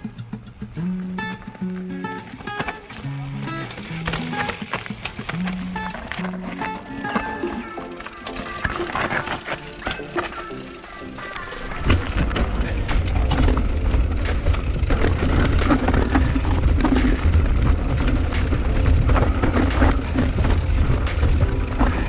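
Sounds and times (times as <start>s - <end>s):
dirt bike engine rumbling: 0.0s - 22.0s.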